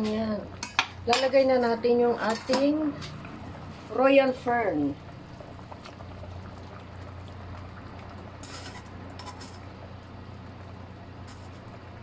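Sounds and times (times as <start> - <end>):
low steady hum: 0.0 - 12.0
soup bubbling in pot: 0.0 - 12.0.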